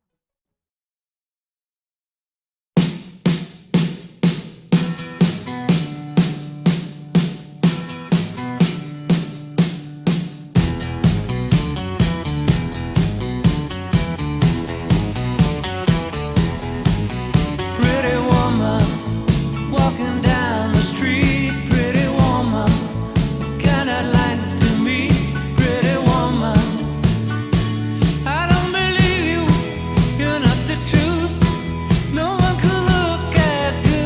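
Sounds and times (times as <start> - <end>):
upbeat rock and roll music: 2.8 - 34.0.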